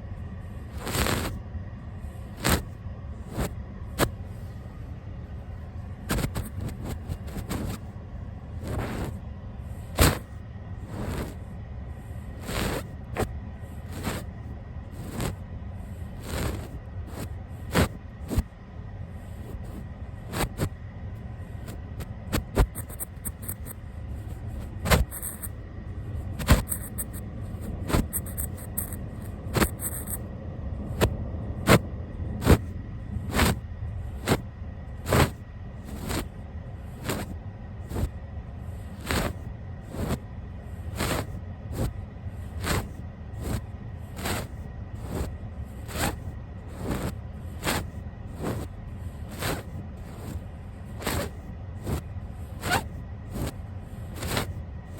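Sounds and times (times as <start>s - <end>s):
brush bristles sweeping microphone: 0.6s - 1.4s, 2.2s - 4.5s, 6.1s - 7.9s, 8.6s - 9.2s, 9.8s - 11.5s, 12.2s - 15.4s, 16.0s - 18.5s, 19.3s - 20.8s, 21.5s - 30.2s, 30.9s - 34.4s, 35.0s - 36.3s, 36.9s - 38.1s, 38.8s - 40.2s, 40.8s - 54.6s.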